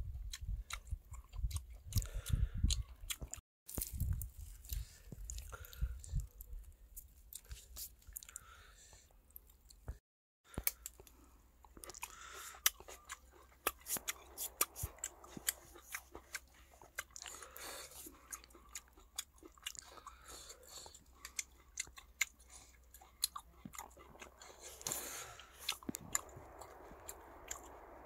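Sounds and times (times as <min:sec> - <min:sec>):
person chewing with mouth smacks: 0:00.2 - 0:06.6, 0:09.4 - 0:27.9.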